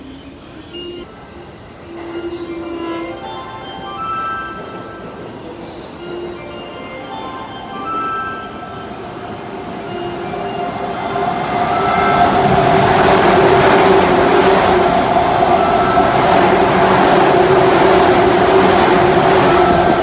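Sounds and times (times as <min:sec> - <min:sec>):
electric train passing: 0:00.0 - 0:20.0
train squeal: 0:00.0 - 0:20.0.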